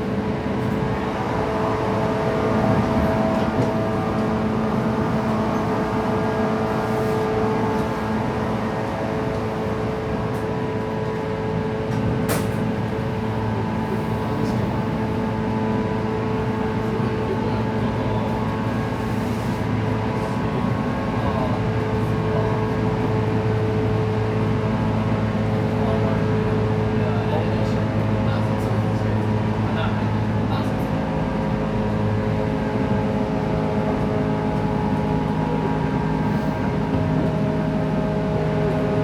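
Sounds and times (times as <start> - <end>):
train interior rumble and hum: 0.0 - 39.0.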